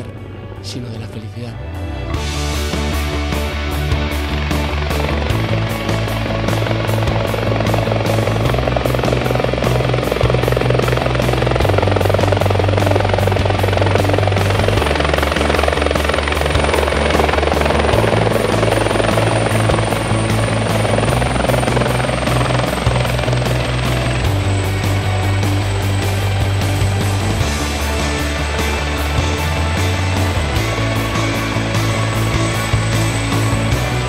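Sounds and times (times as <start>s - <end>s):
background music with bass notes: 0.0s - 34.0s
high turbine whine: 0.0s - 34.0s
helicopter rotor chop: 2.2s - 34.0s.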